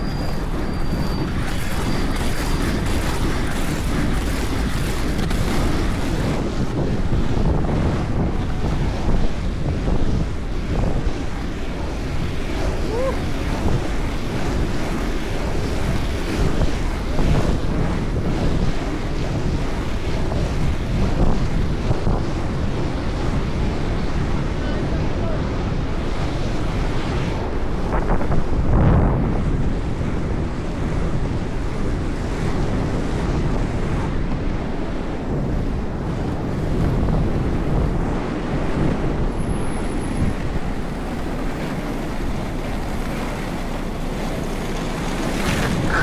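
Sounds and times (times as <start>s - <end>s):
skate wheels rolling on tarmac: 0.0s - 25.2s, 25.8s - 46.0s
wind buffeting microphone: 0.0s - 46.0s.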